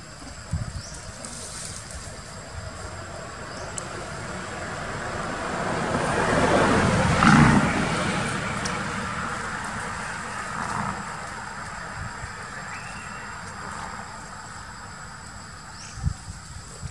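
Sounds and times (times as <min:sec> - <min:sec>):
vehicle passing on road: 0:01.5 - 0:15.3.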